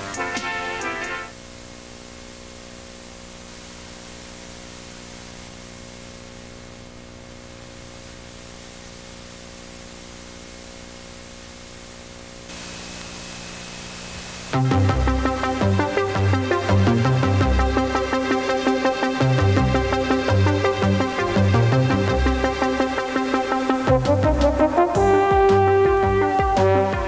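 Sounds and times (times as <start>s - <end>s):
tape hiss and hum: 0.0s - 27.0s.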